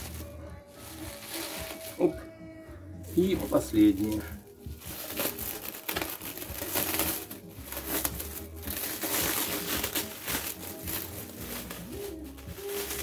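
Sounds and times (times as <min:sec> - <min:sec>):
plastic wrap crinkling: 0:00.0 - 0:02.4, 0:03.0 - 0:13.0.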